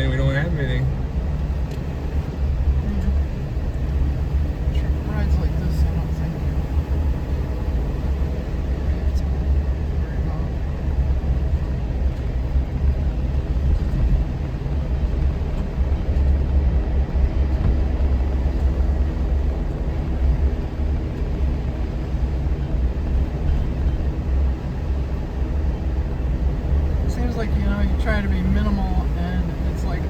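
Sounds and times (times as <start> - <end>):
vehicle engine and tyres rumbling: 0.0 - 30.0.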